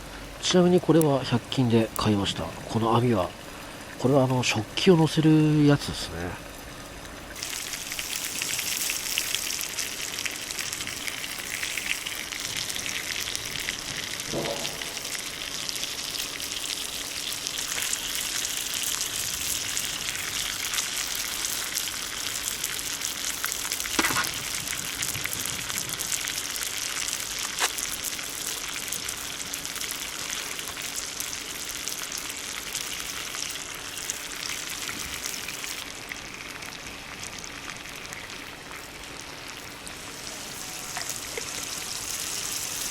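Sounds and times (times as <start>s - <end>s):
food sizzling in a pan: 7.2s - 42.9s.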